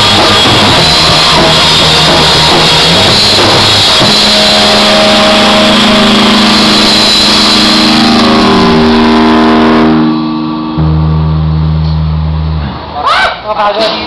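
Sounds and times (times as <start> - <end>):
electric guitar: 0.0 - 13.0
bass guitar: 0.0 - 13.2
drums: 0.0 - 14.0.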